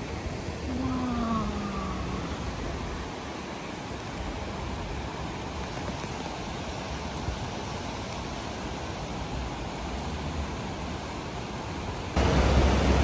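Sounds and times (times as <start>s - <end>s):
river rushing over a weir: 0.0s - 13.0s.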